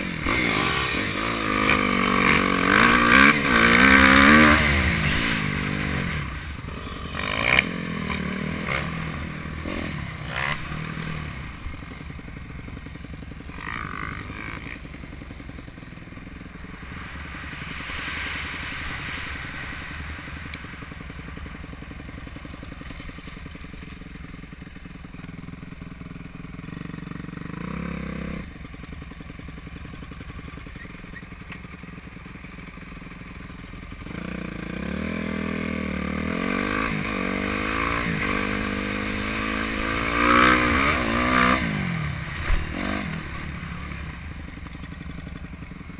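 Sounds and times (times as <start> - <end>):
dirt bike engine revving: 0.0 - 28.5, 33.9 - 45.9.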